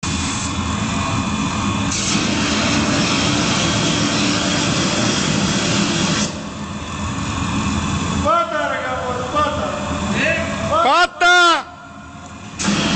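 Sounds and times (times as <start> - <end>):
truck engine rumble: 0.0 - 10.9, 11.6 - 12.9.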